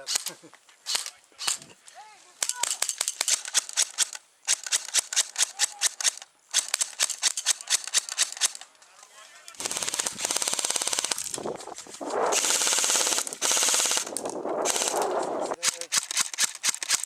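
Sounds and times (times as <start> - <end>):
airsoft guns firing: 2.4 - 8.6, 9.6 - 17.0.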